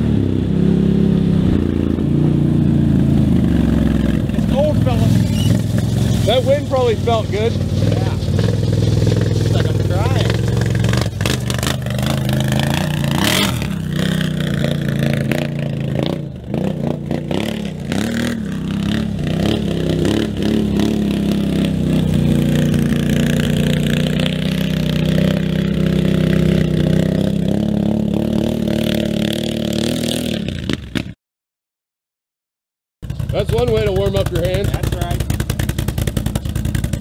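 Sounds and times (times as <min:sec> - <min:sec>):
atv engine revving: 0:00.0 - 0:31.1, 0:33.0 - 0:37.0.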